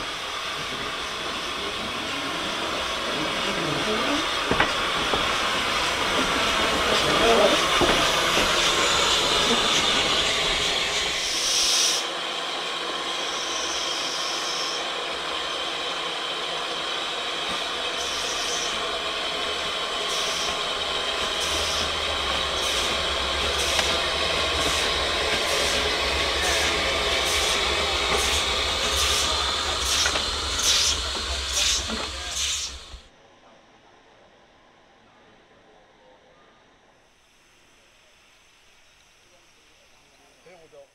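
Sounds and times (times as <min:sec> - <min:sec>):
steam hissing: 0:00.0 - 0:33.1
steam locomotive exhaust chuffs: 0:00.0 - 0:33.1.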